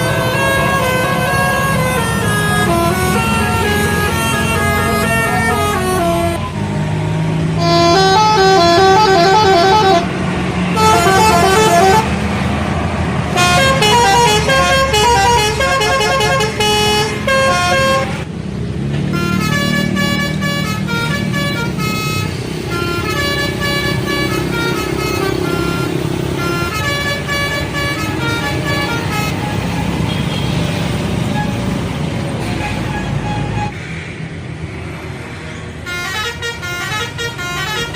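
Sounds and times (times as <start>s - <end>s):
multi-tone bus air horns: 0.0s - 6.6s, 7.5s - 12.4s, 13.3s - 18.3s, 19.1s - 33.8s, 35.8s - 37.9s
bus engine rumbling: 0.0s - 37.9s.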